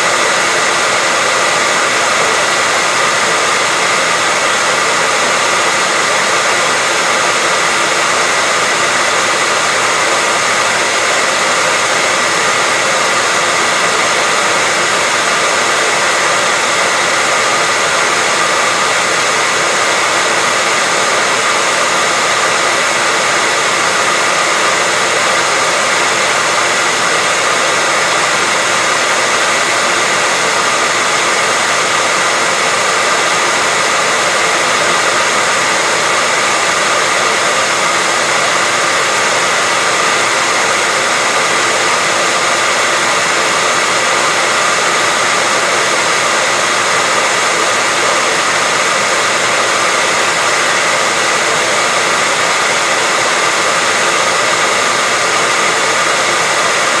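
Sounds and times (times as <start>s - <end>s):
hairdryer running: 0.0s - 57.0s.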